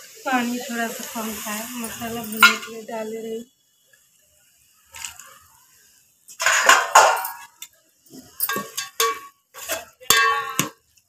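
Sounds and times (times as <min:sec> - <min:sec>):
food frying: 0:00.0 - 0:11.0.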